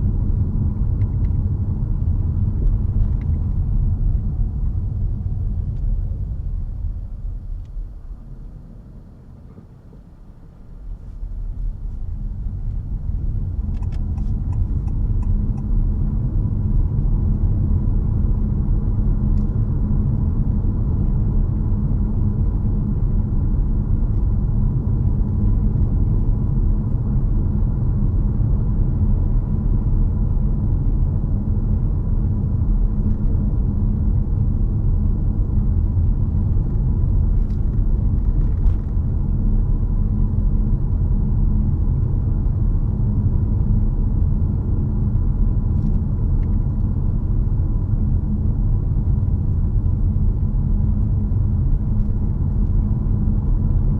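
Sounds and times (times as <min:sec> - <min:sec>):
car cabin road rumble: 0:00.0 - 0:53.9.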